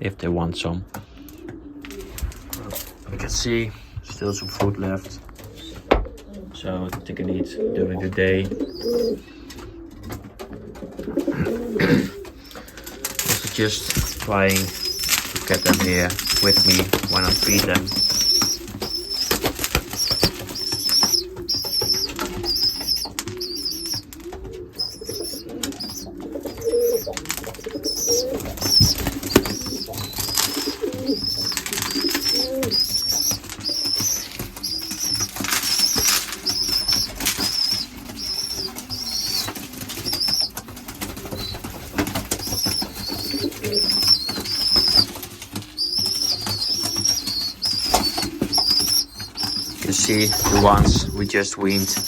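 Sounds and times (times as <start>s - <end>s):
pigeons cooing: 0.8s - 52.0s
pigeon wings flapping: 1.2s - 3.5s, 8.1s - 52.0s.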